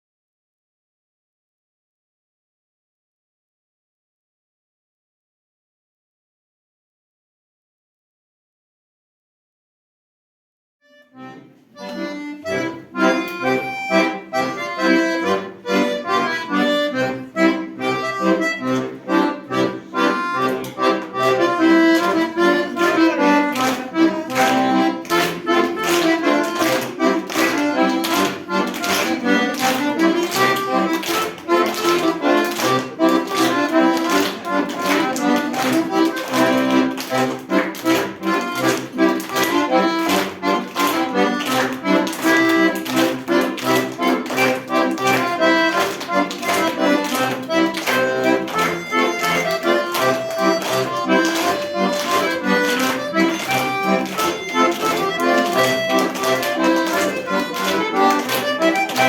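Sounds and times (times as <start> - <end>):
lively instrumental music: 10.9 - 59.0.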